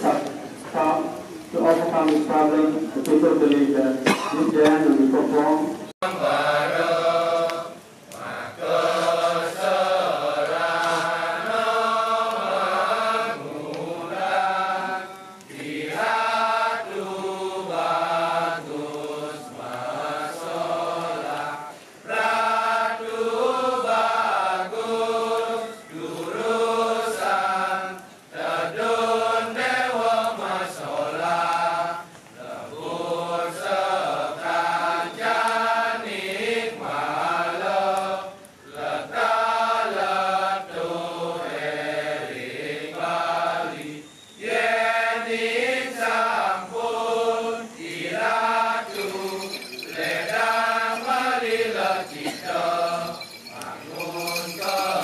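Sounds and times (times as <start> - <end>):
men chanting in unison: 6.0 - 55.0.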